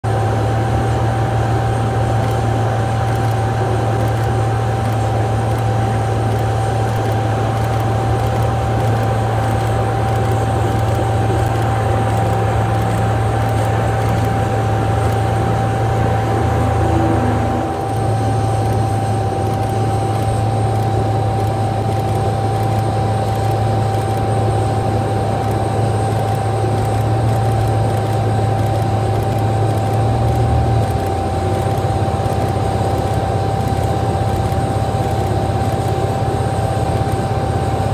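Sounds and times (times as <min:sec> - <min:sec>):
jet engine drone and whine: 0:00.0 - 0:37.9.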